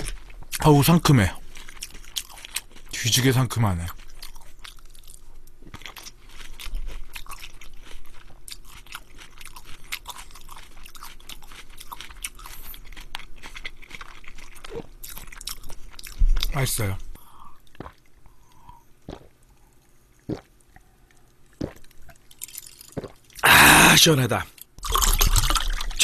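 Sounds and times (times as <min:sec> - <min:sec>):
person chewing crunchy salad: 0:00.0 - 0:23.5, 0:24.6 - 0:26.0.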